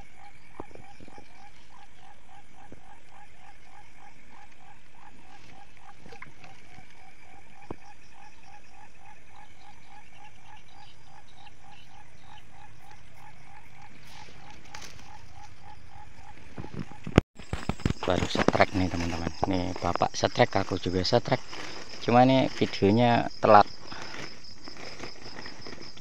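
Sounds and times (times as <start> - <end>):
frogs croaking: 0.0 - 26.0.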